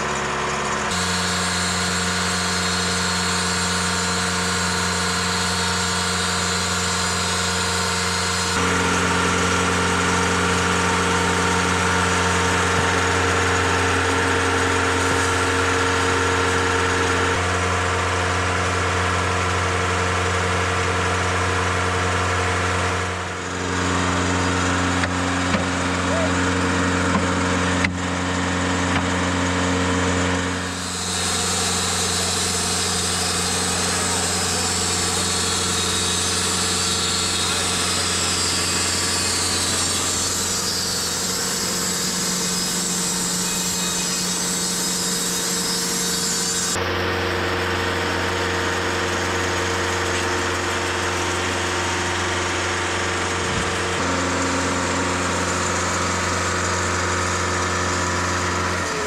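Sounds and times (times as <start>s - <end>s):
saw blade cutting log: 0.0s - 17.4s, 23.2s - 59.0s
sawmill engine humming: 0.0s - 59.0s.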